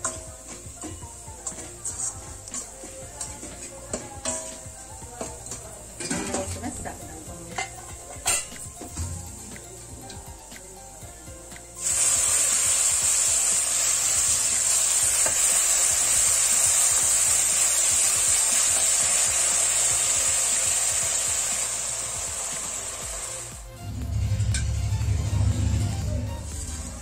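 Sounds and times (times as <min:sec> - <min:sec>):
greens sizzling in hot oil: 0:00.0 - 0:23.7.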